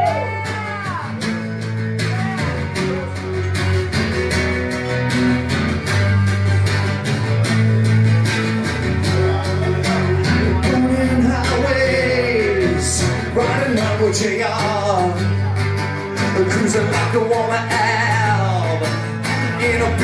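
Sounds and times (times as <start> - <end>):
rock band playing live: 0.0 - 20.0
sliding melodic guitar line: 0.0 - 20.0.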